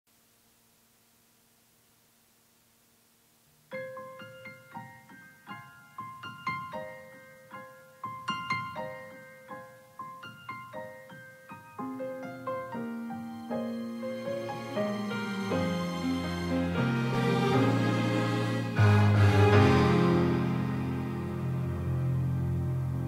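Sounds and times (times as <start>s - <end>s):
faint steady hum: 0.1s - 23.0s
slow piano melody: 3.7s - 23.0s.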